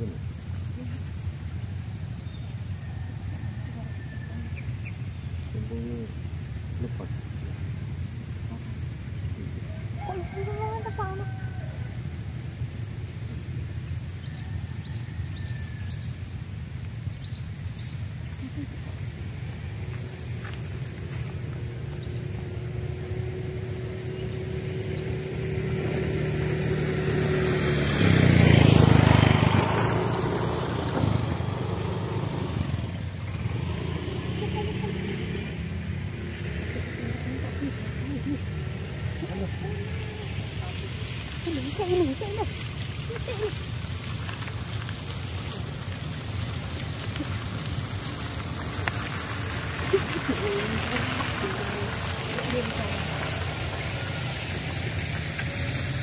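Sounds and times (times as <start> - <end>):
vehicle passing by: 0.0 - 56.0.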